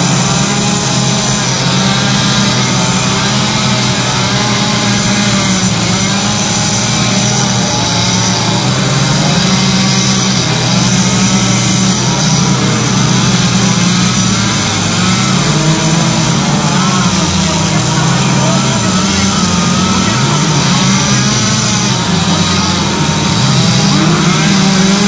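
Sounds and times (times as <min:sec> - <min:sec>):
chainsaw engine running: 0:00.0 - 0:25.0.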